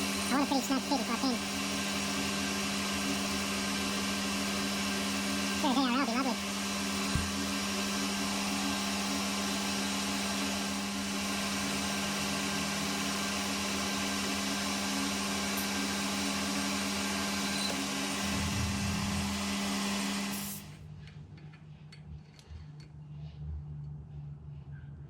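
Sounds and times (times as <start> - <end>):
machine tool motor humming: 0.0 - 20.7.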